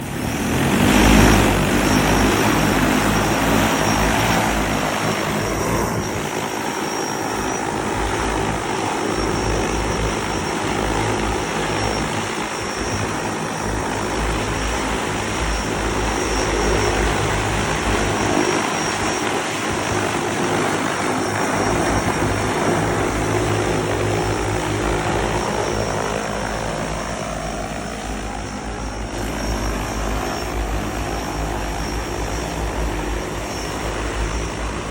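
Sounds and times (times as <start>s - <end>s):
electric propellers droning: 0.0s - 34.9s.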